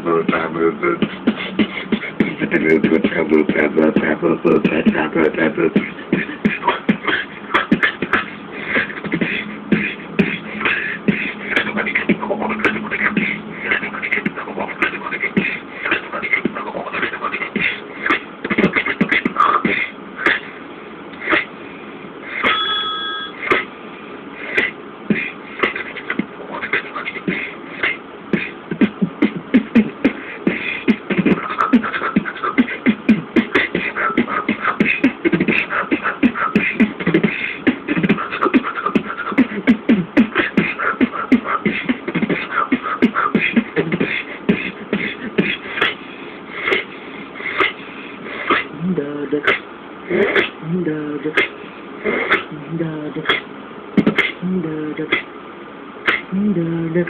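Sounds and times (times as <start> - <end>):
man beatboxing: 0.0 - 21.6, 23.4 - 23.7, 24.4 - 55.4, 56.0 - 57.0.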